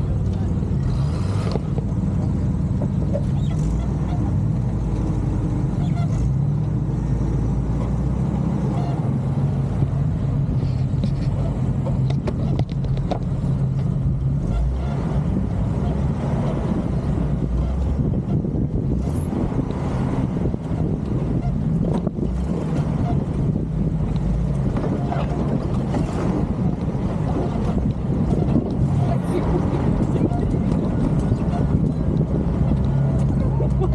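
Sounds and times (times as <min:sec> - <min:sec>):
engine running at low revs: 0:00.0 - 0:33.9.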